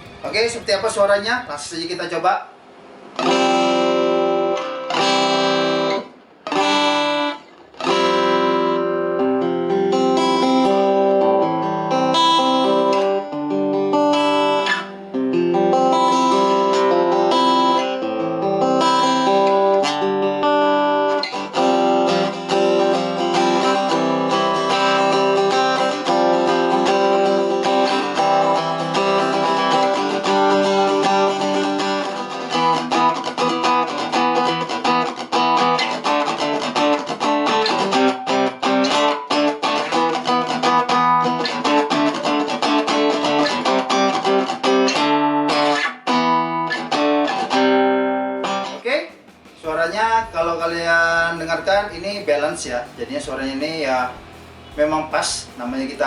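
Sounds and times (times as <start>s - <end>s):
acoustic guitar through amplifier: 0.0s - 56.0s.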